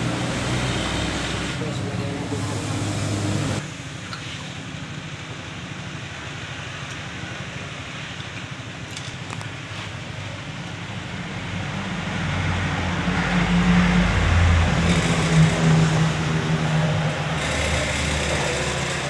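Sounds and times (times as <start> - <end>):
vehicle engine: 0.0 - 19.0.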